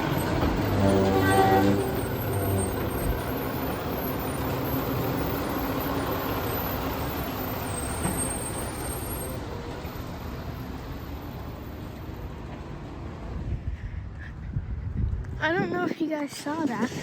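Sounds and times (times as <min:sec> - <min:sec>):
garbage truck engine rumbling: 0:00.0 - 0:14.2.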